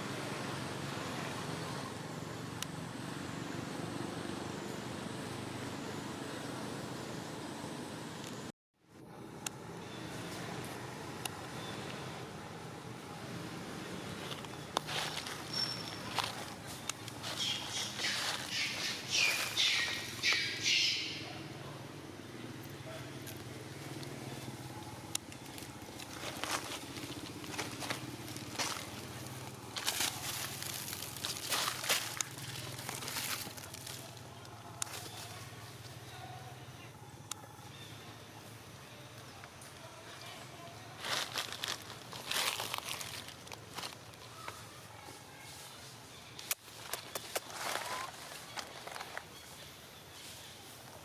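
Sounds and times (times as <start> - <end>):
background noise: 0.0 - 51.0
vehicle engines rumbling: 0.0 - 51.0.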